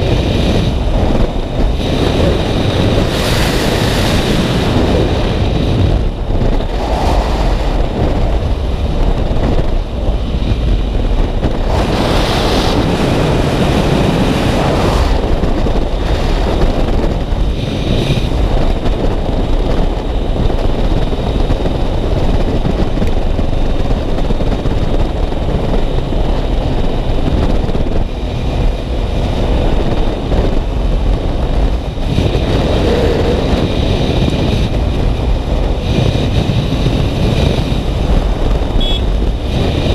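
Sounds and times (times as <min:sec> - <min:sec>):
wind rushing over microphone: 0:00.0 - 0:39.9
motorcycle engine running: 0:07.5 - 0:39.9.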